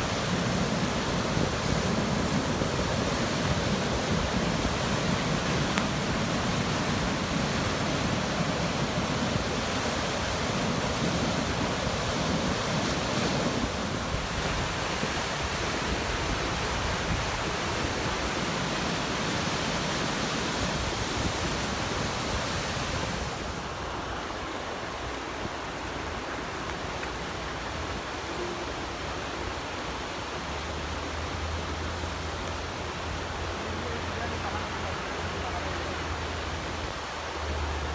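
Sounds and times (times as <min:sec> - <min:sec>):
water rushing through a gorge: 0:00.0 - 0:37.9.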